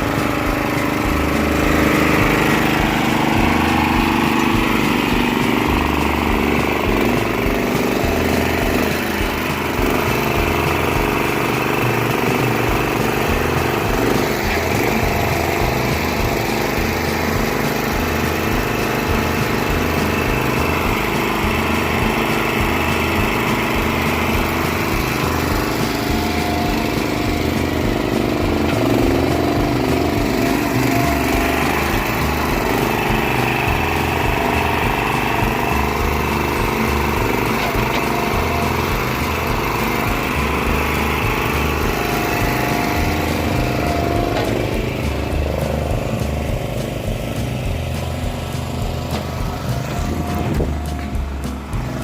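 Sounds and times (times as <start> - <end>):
backhoe engine running: 0.0 - 52.0.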